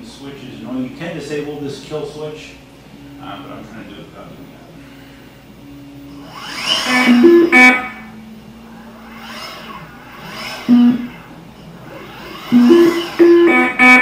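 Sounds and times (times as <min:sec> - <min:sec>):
electric motor whine: 0:02.6 - 0:14.0.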